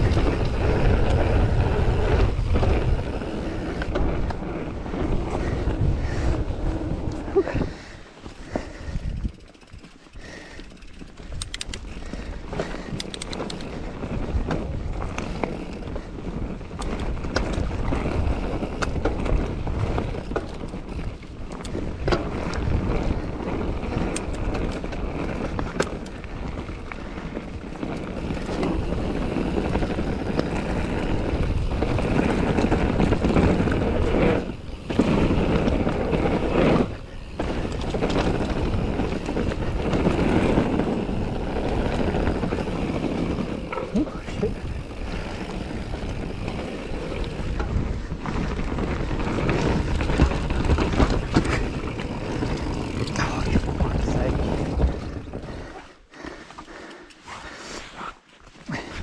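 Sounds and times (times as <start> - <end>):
wind buffeting microphone: 0.0 - 57.6
bike clicks and rattles: 0.0 - 59.0
rolling tyre noise: 0.0 - 59.0.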